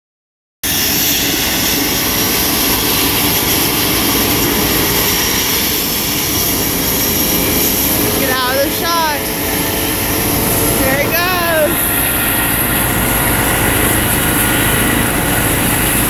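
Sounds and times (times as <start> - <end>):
helicopter rotor whoosh: 0.6 - 16.0
helicopter turbine whine: 0.6 - 16.0.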